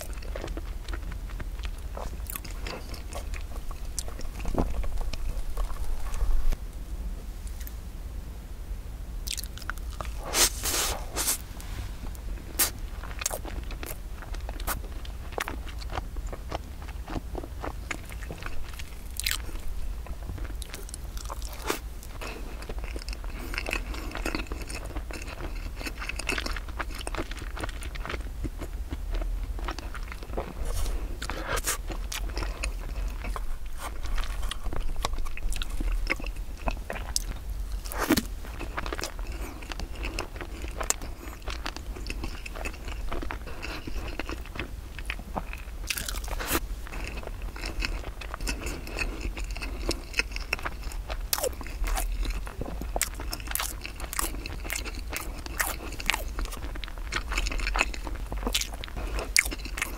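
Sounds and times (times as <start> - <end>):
chewing and biting soft cake: 0.0 - 6.6, 9.2 - 59.9
steady low hum: 0.0 - 59.9.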